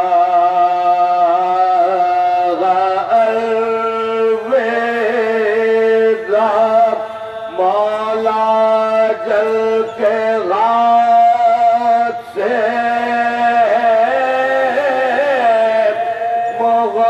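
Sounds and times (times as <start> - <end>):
man chanting through microphone: 0.0 - 17.0.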